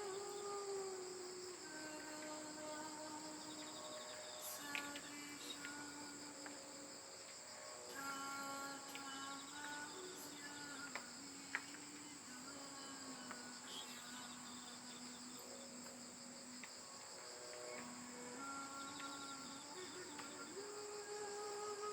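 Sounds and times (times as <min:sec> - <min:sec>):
crickets chirping: 0:00.0 - 0:21.9
soft slow music: 0:00.0 - 0:21.9.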